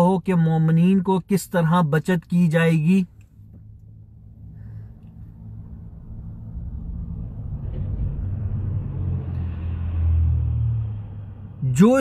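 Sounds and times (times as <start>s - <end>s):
car engine rumble from inside: 0.0s - 12.0s.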